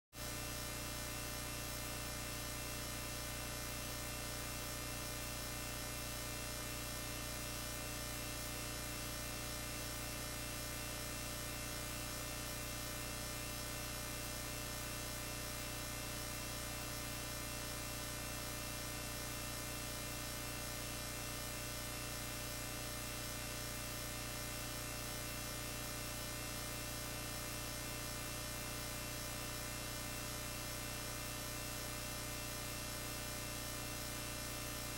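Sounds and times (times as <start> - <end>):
electrical mains hum and buzz: 0.2 - 34.9.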